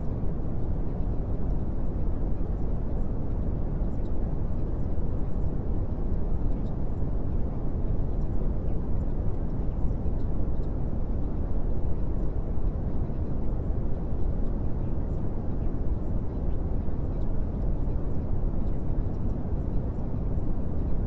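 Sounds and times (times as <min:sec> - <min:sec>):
steady low rumbling noise: 0:00.0 - 0:21.0.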